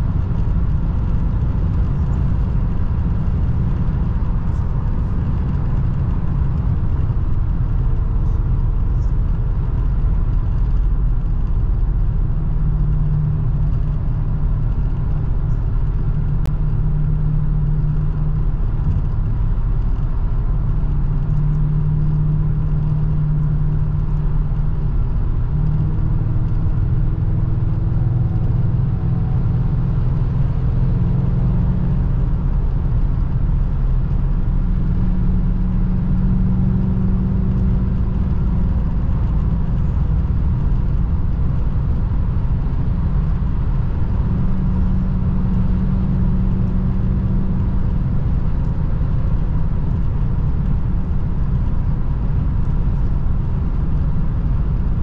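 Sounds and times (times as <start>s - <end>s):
car engine while driving: 0.0s - 55.0s
road noise: 0.0s - 55.0s.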